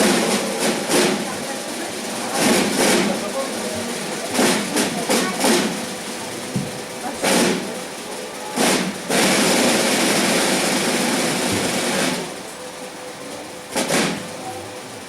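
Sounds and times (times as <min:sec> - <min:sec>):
percussion chuff bursts: 0:00.0 - 0:12.6, 0:13.7 - 0:14.5
steady hiss: 0:00.0 - 0:15.0.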